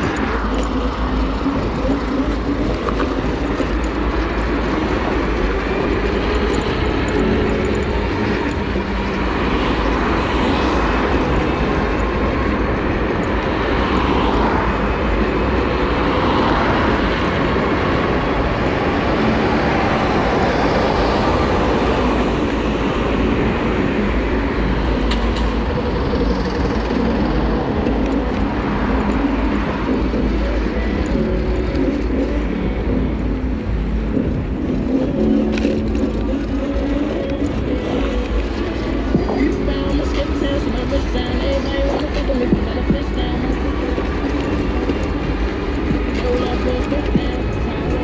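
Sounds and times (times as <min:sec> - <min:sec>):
wind rushing over microphone: 0:00.0 - 0:48.0.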